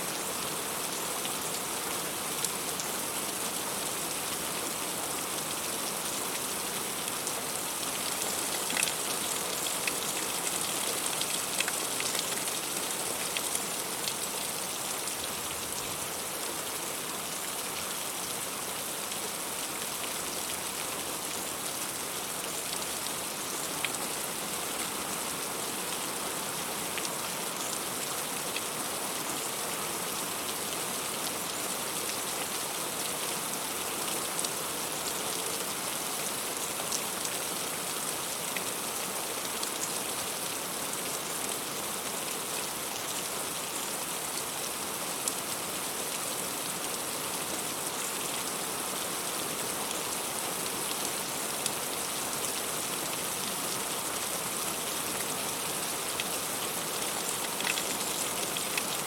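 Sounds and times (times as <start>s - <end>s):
heavy rain on leaves: 0.0s - 59.0s.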